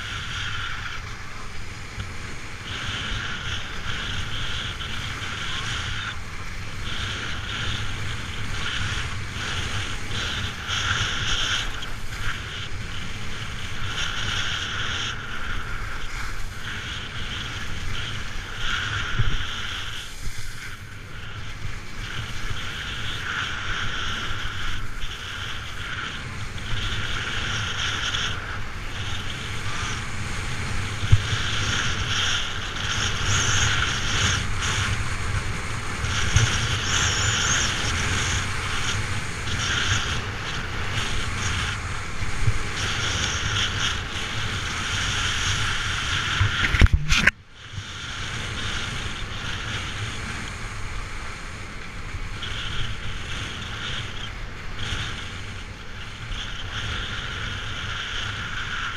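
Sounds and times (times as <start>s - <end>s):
skis scraping on snow: 0.0s - 58.9s
wind buffeting microphone: 0.0s - 58.9s.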